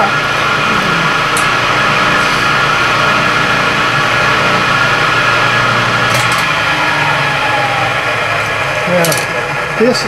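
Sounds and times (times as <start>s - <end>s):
milling machine humming and whining: 0.0s - 10.0s.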